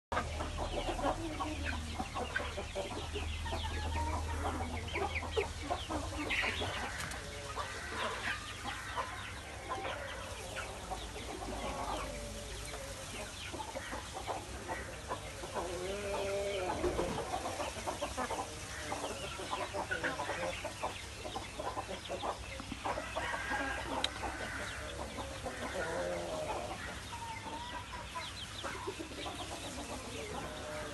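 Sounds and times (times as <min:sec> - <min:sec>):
chickens clucking: 0:00.1 - 0:30.9.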